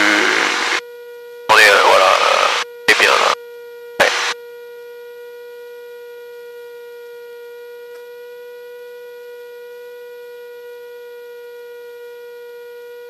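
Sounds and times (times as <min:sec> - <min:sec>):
steady electrical whine: 0:00.0 - 0:13.0.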